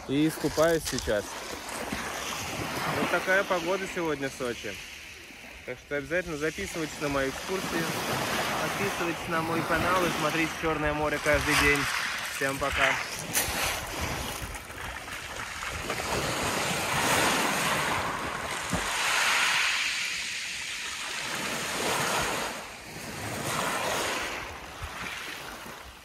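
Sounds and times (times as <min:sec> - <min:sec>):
water sloshing and splashing: 0:00.0 - 0:26.0.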